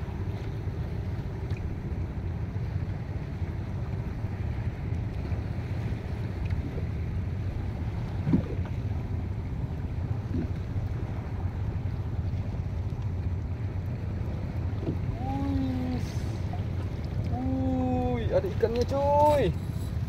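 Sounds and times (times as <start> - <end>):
water lapping: 0.0 - 20.0
wind buffeting microphone: 0.0 - 20.0.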